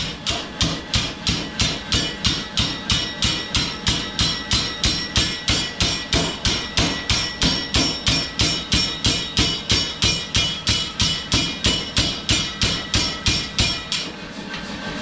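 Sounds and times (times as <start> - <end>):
power hammer striking metal: 0.0 - 14.2.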